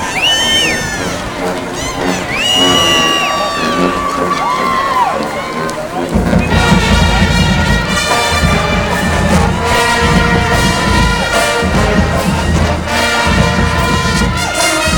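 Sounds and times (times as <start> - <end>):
marching band brass chords: 0.0 - 14.9.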